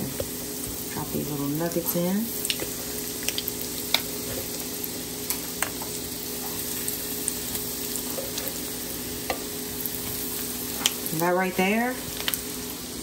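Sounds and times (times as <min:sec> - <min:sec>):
fish frying in skillet: 0:00.0 - 0:13.0
oil popping and crackling: 0:00.1 - 0:11.2, 0:12.0 - 0:13.0.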